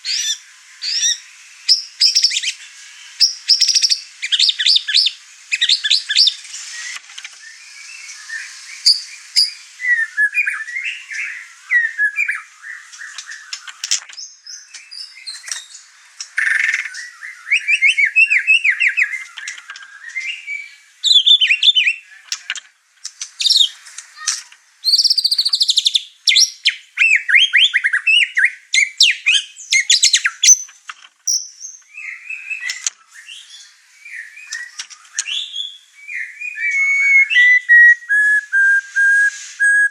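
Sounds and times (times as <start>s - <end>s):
bird singing whistles and trills: 0.0s - 22.2s, 23.4s - 23.8s, 24.8s - 30.7s, 31.3s - 39.9s.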